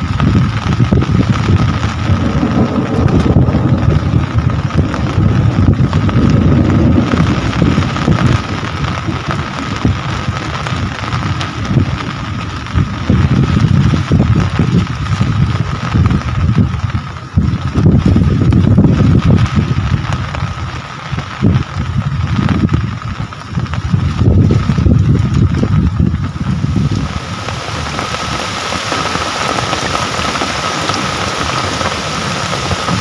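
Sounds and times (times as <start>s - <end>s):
heavy rain falling: 0.0s - 33.0s
wind buffeting microphone: 0.0s - 33.0s.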